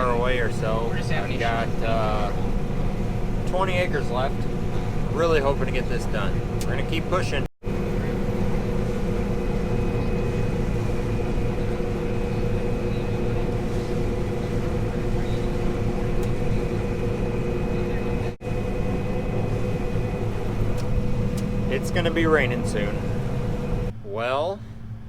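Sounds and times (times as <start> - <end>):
combine harvester drone: 0.0 - 25.0
machine whining tones: 0.0 - 25.0.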